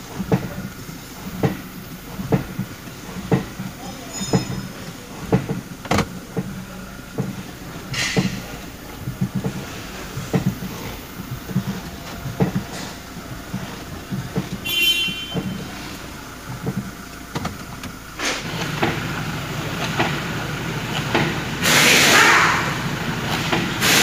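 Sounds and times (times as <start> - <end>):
clacking knocks under a car: 0.0 - 21.8, 23.2 - 24.0.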